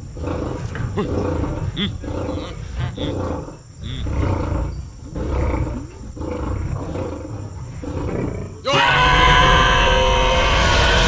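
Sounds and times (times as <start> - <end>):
leopards growling and snarling: 0.0 - 11.0.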